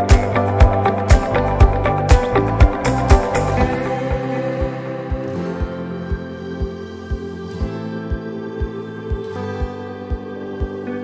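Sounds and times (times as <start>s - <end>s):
instrumental music with low beat: 0.0s - 11.0s.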